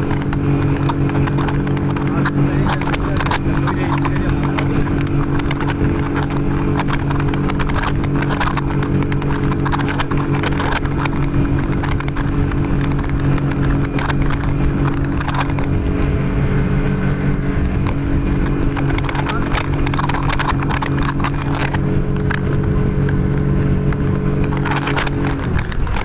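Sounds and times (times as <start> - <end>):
outboard motor running: 0.0 - 26.0
water slapping hull: 0.0 - 26.0.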